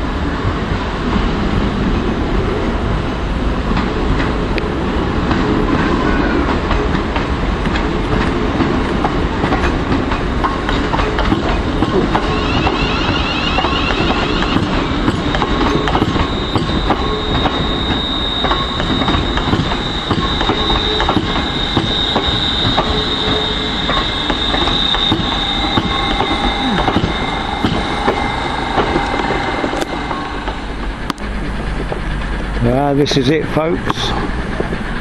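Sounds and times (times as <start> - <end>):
train wheels squealing on rails: 3.8 - 35.0.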